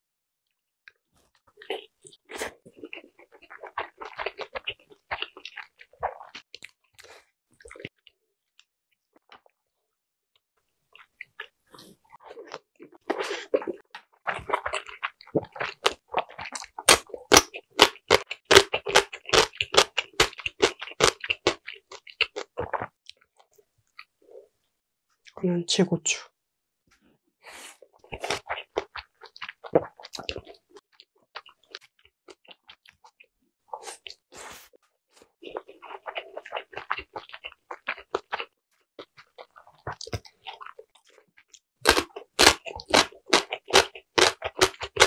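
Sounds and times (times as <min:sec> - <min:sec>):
crunchy chewing: 0:01.2 - 0:08.1, 0:10.9 - 0:24.2, 0:27.7 - 0:45.0.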